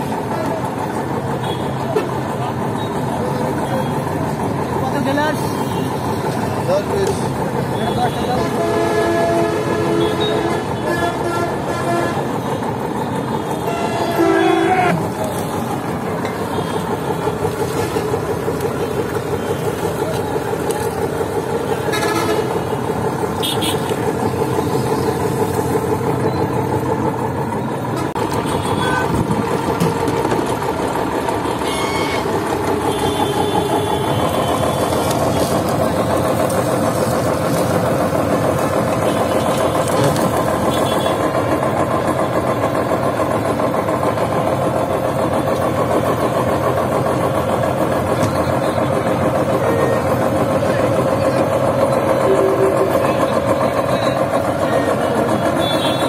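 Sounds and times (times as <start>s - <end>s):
sugarcane juice crusher running: 0.0s - 56.0s.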